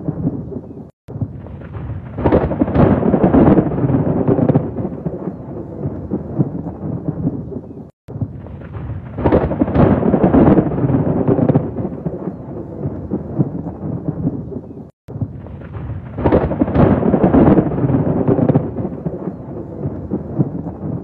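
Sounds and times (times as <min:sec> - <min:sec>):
rain: 0:00.0 - 0:21.0
rolling thunder: 0:00.0 - 0:21.0.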